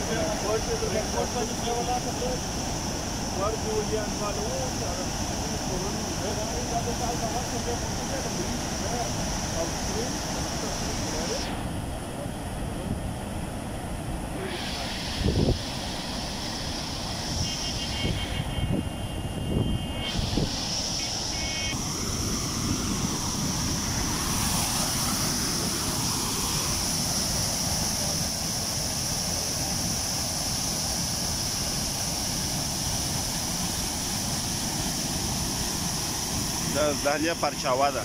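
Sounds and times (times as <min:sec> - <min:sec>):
waterfall rushing: 0:00.0 - 0:19.3, 0:19.9 - 0:38.0.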